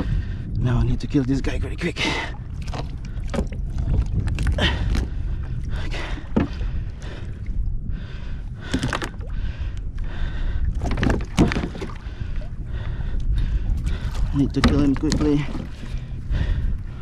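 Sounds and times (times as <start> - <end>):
steady low rumble: 0.0 - 17.0
water sounds: 0.0 - 17.0.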